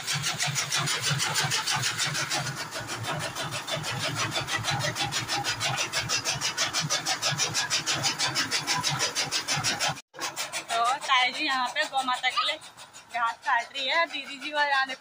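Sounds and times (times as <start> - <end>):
chaff cutter chopping grass: 0.0 - 15.0.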